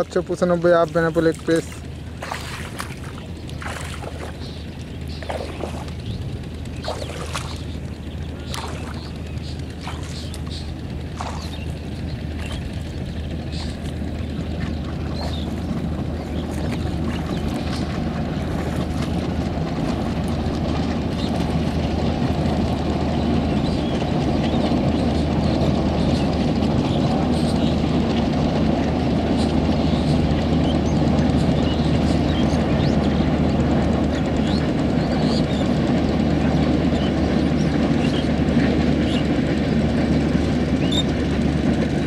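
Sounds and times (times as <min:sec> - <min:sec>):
diesel locomotive engine drone: 0:00.0 - 0:42.0
train rolling noise: 0:00.0 - 0:42.0.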